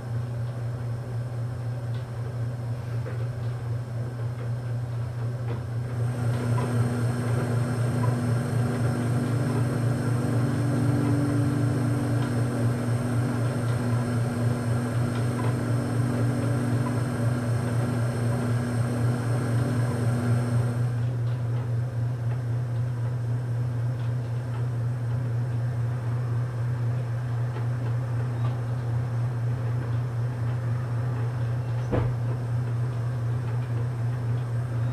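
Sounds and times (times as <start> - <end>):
electric motor hum with pulsing beat: 0.0 - 34.9.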